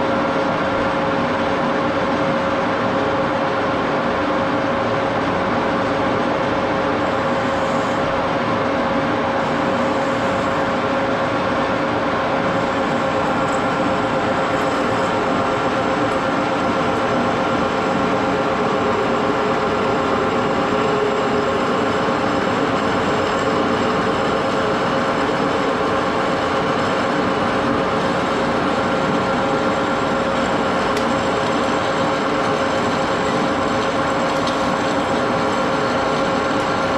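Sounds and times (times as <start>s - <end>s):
lathe whining: 4.4s - 36.9s.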